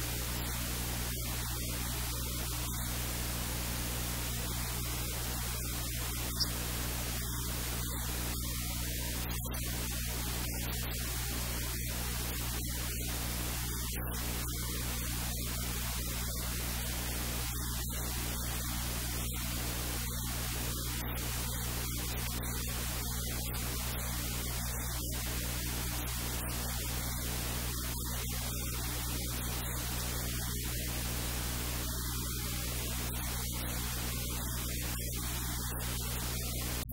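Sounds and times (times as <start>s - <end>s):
low electrical hum: 0.0s - 36.9s
static hiss: 0.0s - 36.9s.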